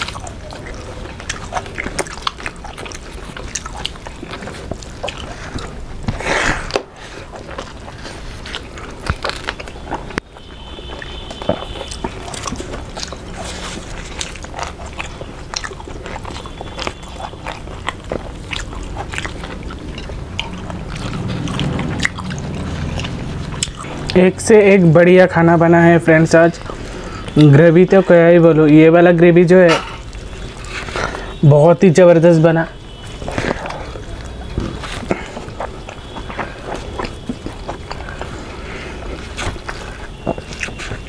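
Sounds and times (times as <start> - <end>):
people chewing and biting: 0.0 - 41.0.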